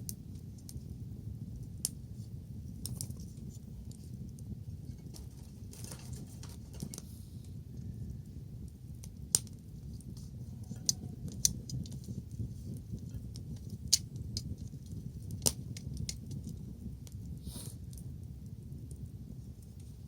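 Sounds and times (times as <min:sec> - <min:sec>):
low steady rumble: 0:00.0 - 0:20.0
wood bonfire crackling: 0:00.0 - 0:20.0.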